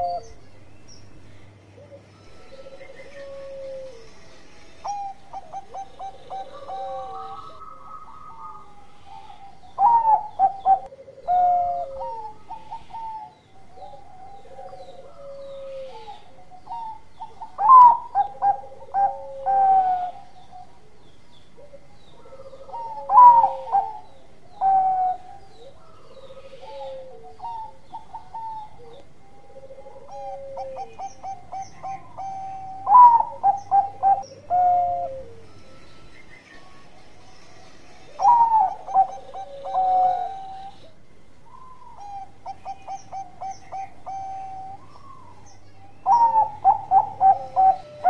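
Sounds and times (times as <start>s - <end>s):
dove cooing: 0.0s - 0.5s, 1.5s - 36.1s, 38.0s - 48.0s.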